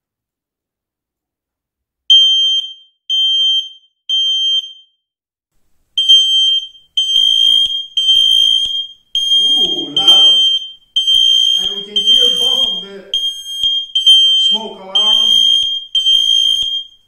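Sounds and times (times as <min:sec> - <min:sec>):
smoke alarm beeping: 0:02.1 - 0:04.9, 0:06.0 - 0:17.0.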